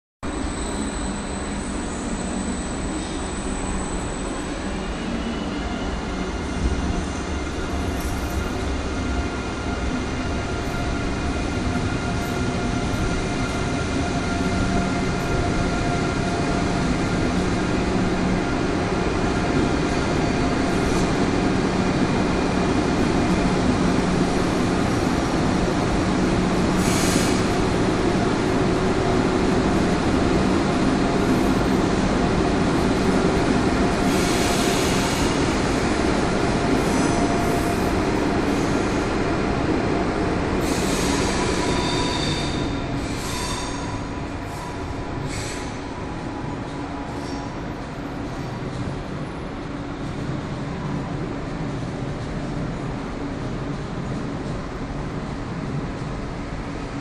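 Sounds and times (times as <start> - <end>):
train rumble with whining tones: 0.2 - 57.0.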